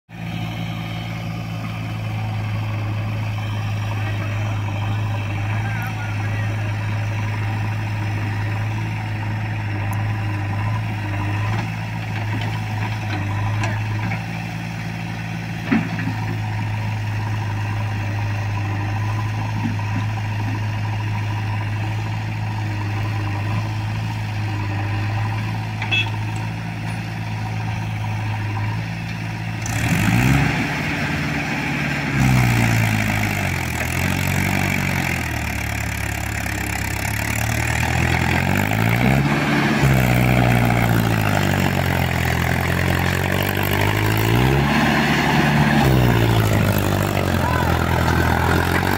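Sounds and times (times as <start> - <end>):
tractor engine revving: 0.0 - 48.9
diesel engines idling: 0.1 - 48.9.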